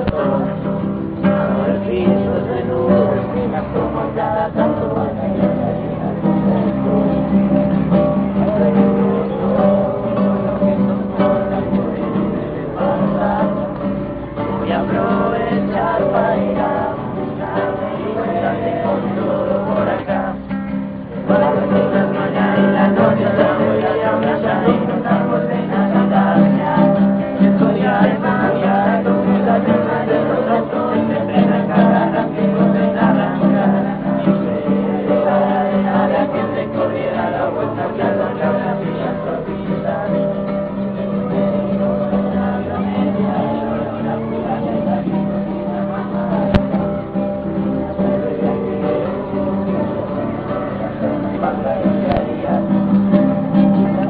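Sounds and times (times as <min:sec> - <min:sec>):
strummed acoustic guitar: 0:00.0 - 0:54.0
young voices singing together: 0:00.0 - 0:54.0.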